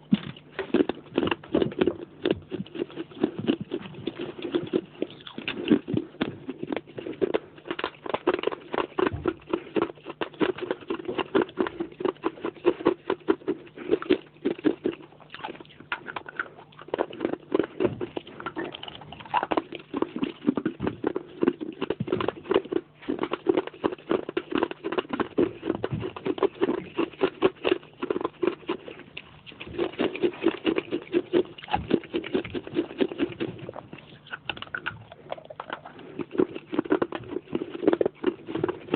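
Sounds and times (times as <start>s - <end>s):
clay pot pieces crunched by chewing: 0.0s - 38.9s.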